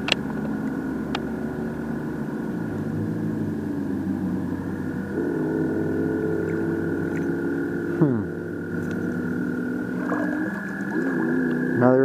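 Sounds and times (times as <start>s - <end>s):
steady high-pitched tone: 0.0s - 12.0s
vehicle engine running: 0.0s - 12.0s.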